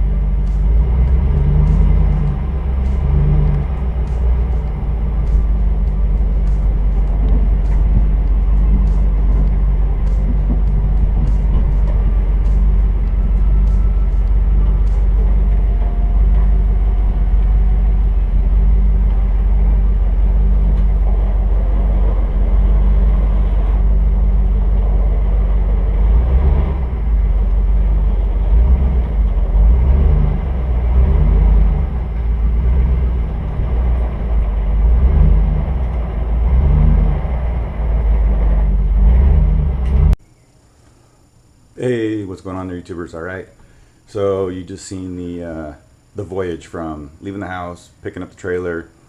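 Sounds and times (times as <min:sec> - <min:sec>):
engine and road rumble: 0:00.0 - 0:42.0.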